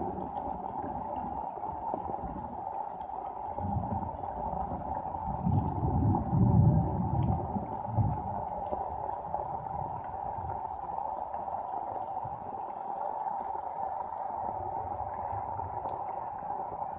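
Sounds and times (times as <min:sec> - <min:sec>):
steady rain on water: 0:00.0 - 0:16.9.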